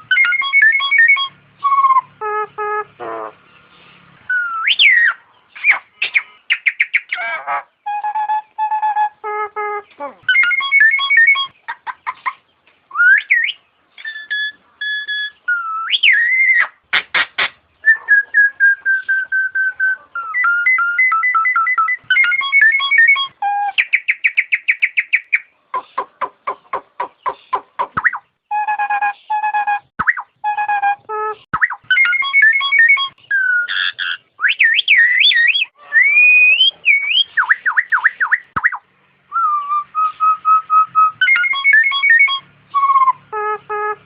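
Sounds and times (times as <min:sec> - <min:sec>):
myna calling with whistles: 0:00.0 - 0:44.0.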